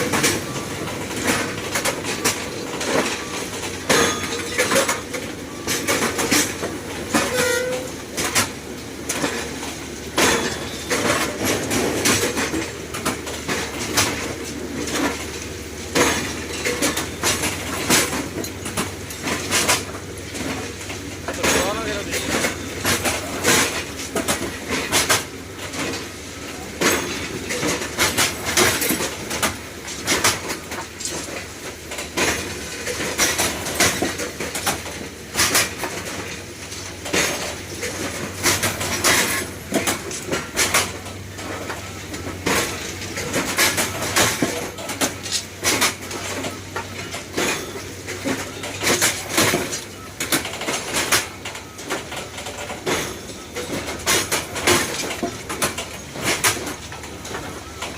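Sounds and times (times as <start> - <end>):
metallic clanks and clatter: 0.0 - 57.9.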